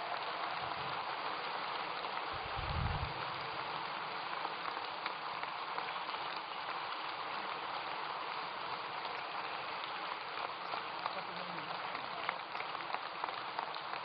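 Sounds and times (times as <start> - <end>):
crowd applauding: 0.0 - 5.2, 5.8 - 14.0.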